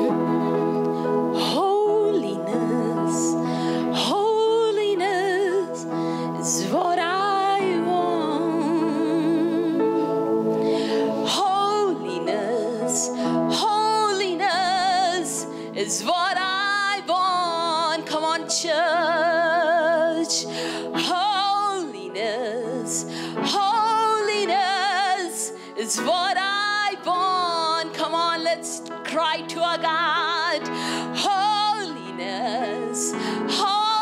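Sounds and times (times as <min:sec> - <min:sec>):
woman singing with vibrato: 0:01.4 - 0:10.1, 0:10.9 - 0:34.0.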